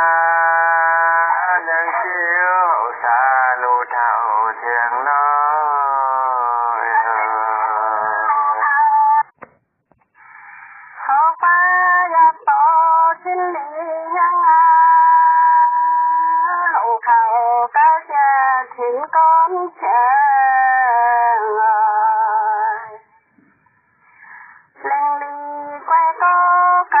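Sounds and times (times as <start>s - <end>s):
person singing unaccompanied: 0.0s - 9.4s, 10.8s - 23.2s, 24.0s - 27.0s.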